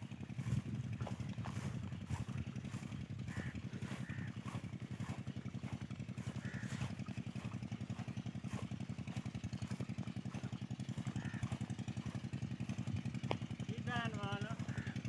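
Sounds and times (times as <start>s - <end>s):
small engine puttering: 0.0s - 15.0s.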